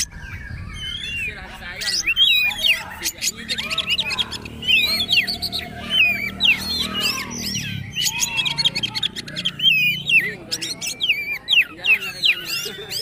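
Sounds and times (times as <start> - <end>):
bird singing whistled phrases: 0.0 - 13.0.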